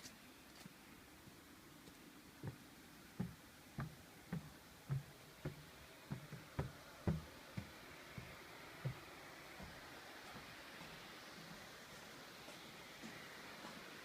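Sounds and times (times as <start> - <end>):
faint steady hiss: 0.0 - 14.0
footsteps walking: 0.0 - 14.0.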